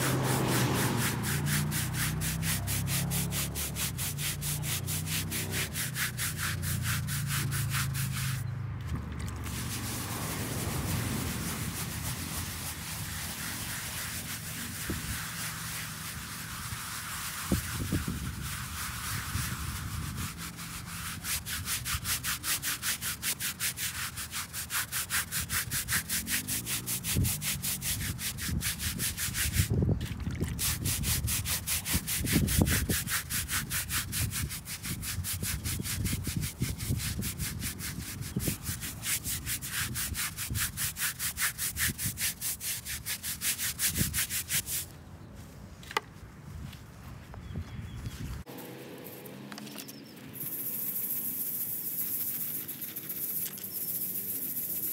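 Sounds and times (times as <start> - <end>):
brush scrubbing stone: 0.0 - 44.9, 48.4 - 54.9.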